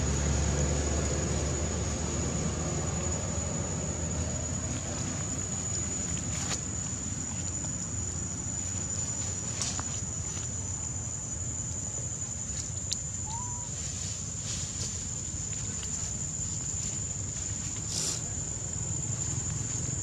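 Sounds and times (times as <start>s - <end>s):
insects buzzing: 0.0s - 20.0s
low background rumble: 0.0s - 20.0s.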